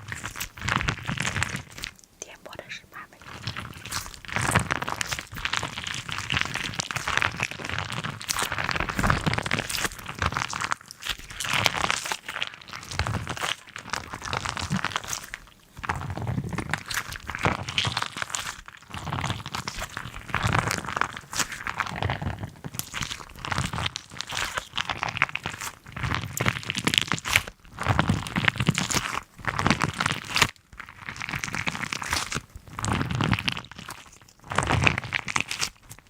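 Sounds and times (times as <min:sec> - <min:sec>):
crunching and crinkling: 0:00.0 - 0:02.1, 0:03.2 - 0:36.0.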